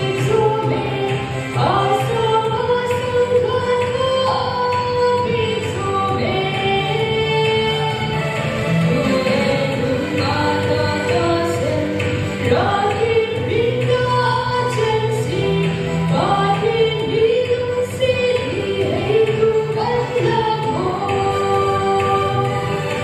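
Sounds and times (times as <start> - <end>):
backing music: 0.0 - 23.0
woman singing into microphone: 0.0 - 23.0.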